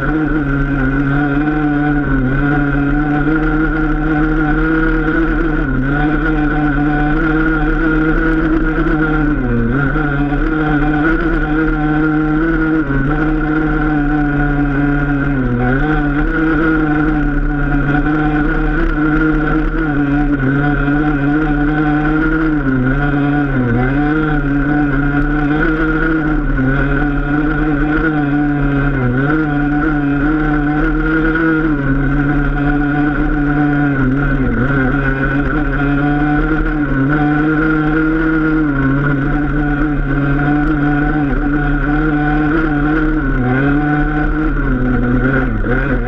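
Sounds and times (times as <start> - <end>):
motorcycle engine running at high revs: 0.0 - 46.0.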